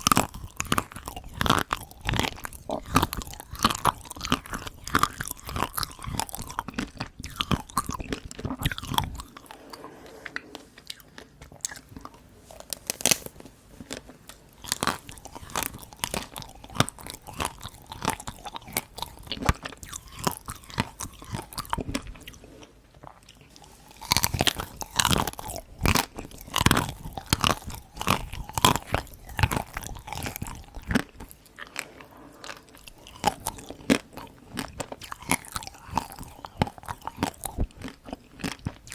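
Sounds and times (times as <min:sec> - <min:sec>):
crunching chocolate ice cream: 0:00.0 - 0:38.9.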